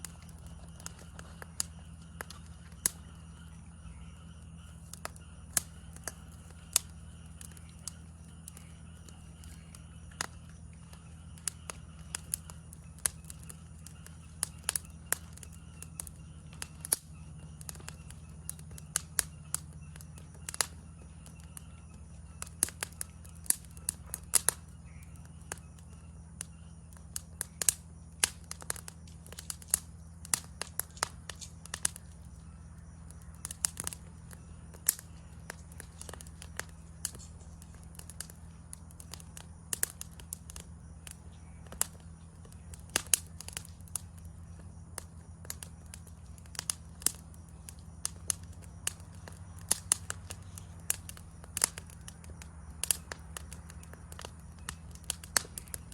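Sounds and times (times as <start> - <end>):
campfire crackling and popping: 0.0 - 55.9
low hum: 0.0 - 55.9.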